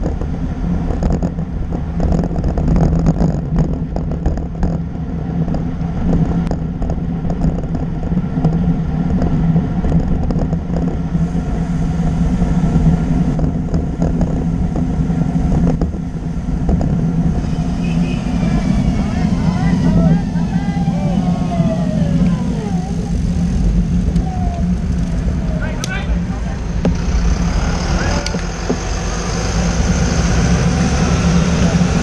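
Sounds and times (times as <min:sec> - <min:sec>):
road rumble: 0:00.0 - 0:32.0
wind buffeting: 0:00.0 - 0:32.0.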